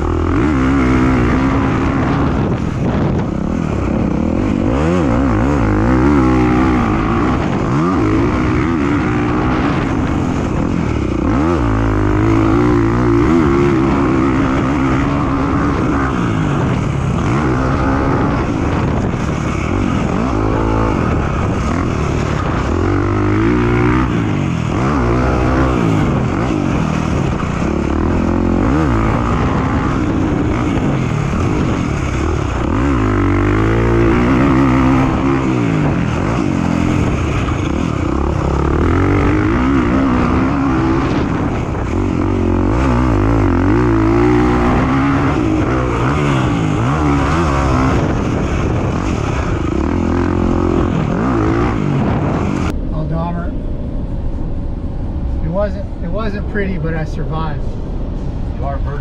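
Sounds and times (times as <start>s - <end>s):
dirt bike engine revving: 0.0s - 53.8s.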